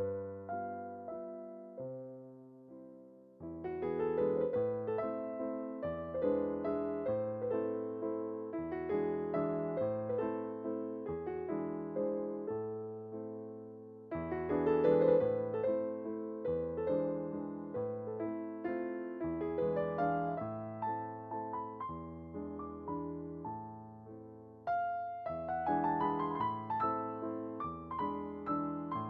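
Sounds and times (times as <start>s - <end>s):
gentle piano melody: 0.0s - 29.0s.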